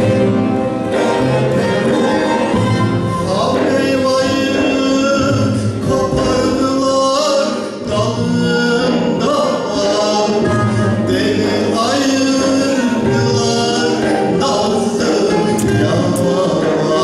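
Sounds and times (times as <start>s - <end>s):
plucked lute accompaniment: 0.0s - 17.0s
man singing folk song: 3.2s - 17.0s.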